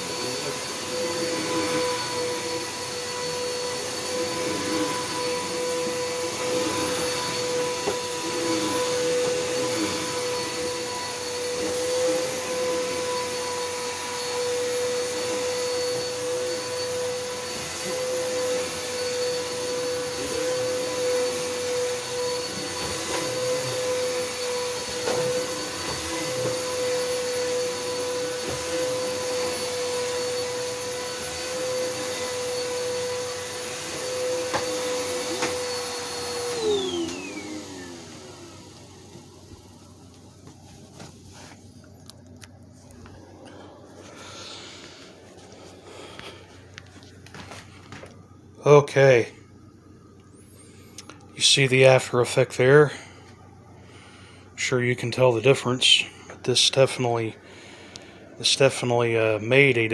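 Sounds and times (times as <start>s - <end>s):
upright vacuum cleaner on carpet: 0.0s - 49.4s.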